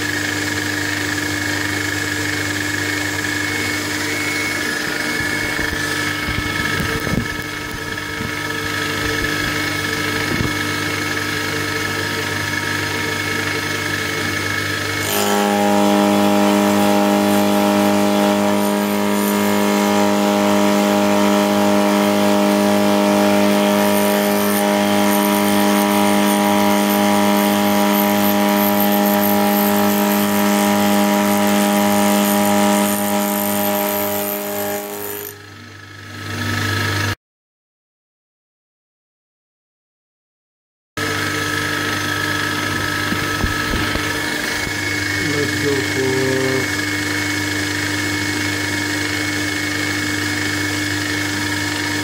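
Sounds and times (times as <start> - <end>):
milling machine cutting steel: 0.1 - 37.0, 41.0 - 52.0.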